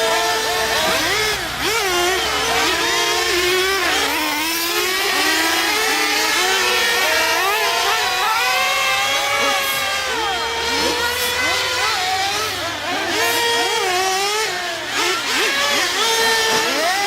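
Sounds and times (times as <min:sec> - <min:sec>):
small engines whining: 0:00.0 - 0:17.0.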